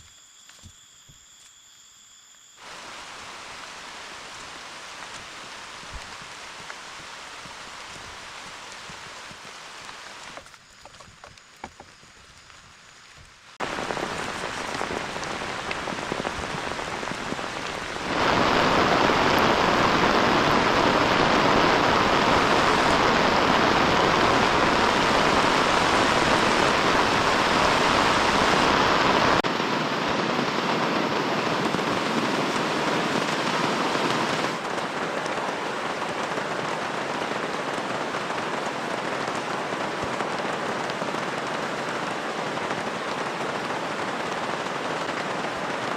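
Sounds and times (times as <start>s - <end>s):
heavy rain falling: 2.6s - 10.5s, 11.2s - 45.9s.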